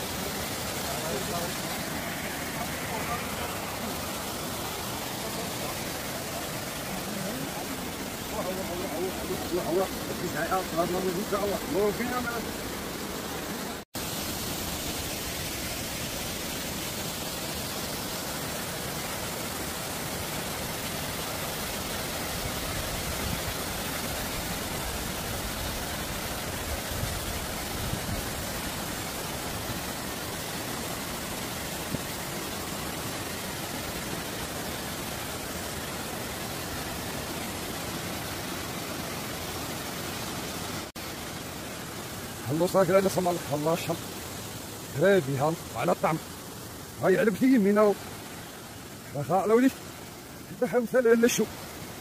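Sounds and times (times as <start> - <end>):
waterfall rushing into a pool: 0.0 - 52.0.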